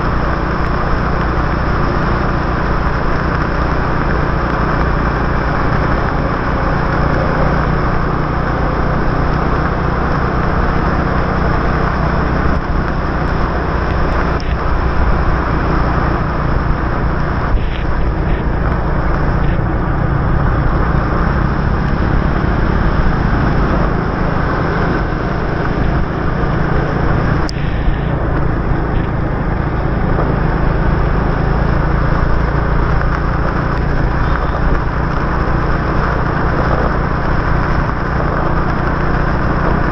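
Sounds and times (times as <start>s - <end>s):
hiss of wet road and rain: 0.0s - 39.9s
motorbike engine running: 0.0s - 39.9s.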